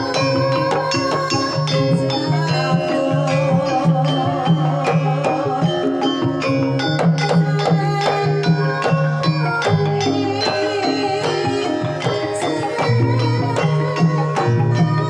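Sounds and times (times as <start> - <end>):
hand drums beating: 0.0 - 15.0
metallophones ringing: 0.0 - 15.0
wavering melodic line: 0.0 - 15.0.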